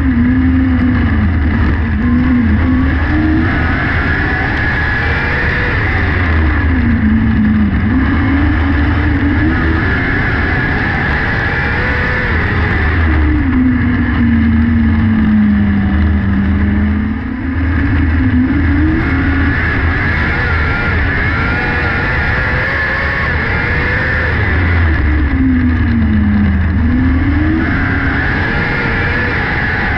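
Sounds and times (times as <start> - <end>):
racing car engine: 0.0 - 29.9.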